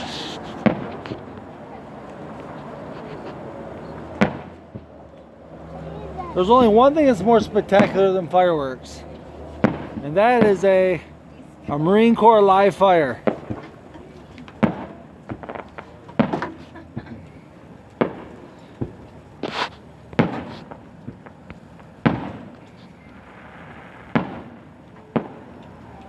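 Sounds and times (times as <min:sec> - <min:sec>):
fireworks booming with echo: 0:00.0 - 0:01.5, 0:03.0 - 0:05.0, 0:05.9 - 0:26.0.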